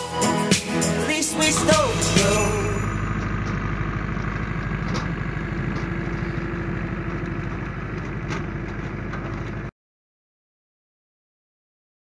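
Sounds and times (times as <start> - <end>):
tractor diesel engine running: 0.0 - 9.7.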